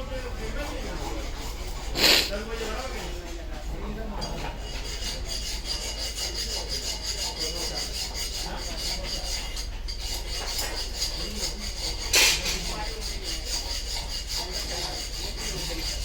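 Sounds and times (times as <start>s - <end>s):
metal rasping strokes: 0.0s - 16.0s.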